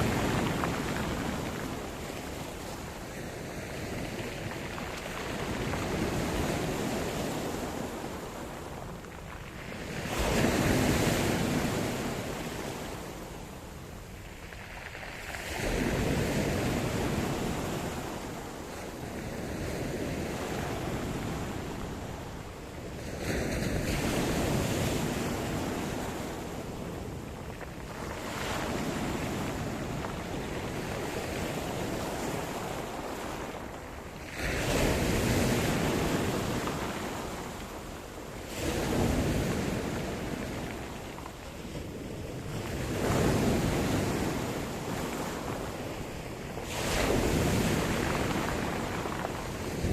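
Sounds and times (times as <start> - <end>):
waves breaking on shore: 0.0 - 49.9.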